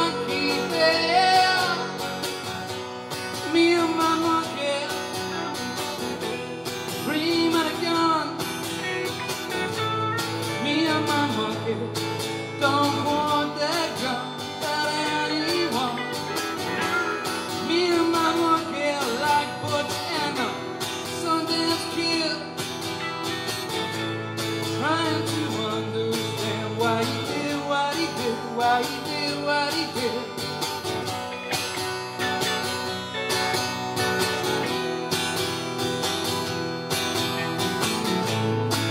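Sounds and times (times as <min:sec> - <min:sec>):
acoustic guitar chords: 0:00.0 - 0:38.9
electric guitar lead lines: 0:00.0 - 0:38.9.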